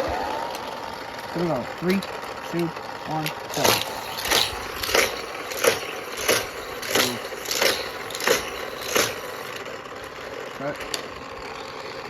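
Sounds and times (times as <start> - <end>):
toy cars whooshing past: 0.0 - 12.0
toy track motor whir: 0.0 - 12.0.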